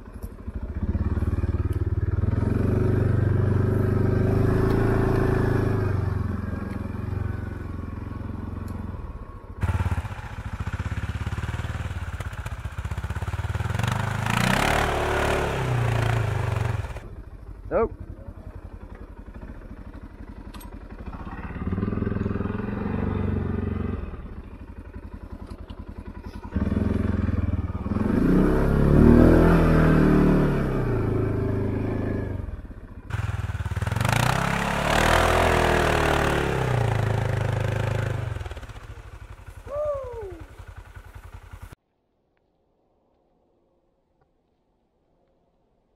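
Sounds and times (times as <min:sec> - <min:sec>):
atv engine revving: 0:00.0 - 0:41.8.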